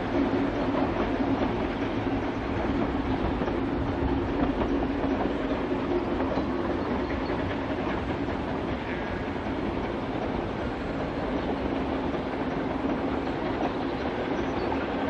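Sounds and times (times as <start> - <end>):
steam train running: 0.0 - 15.0
wheels clickety-clack on rail joints: 0.0 - 15.0.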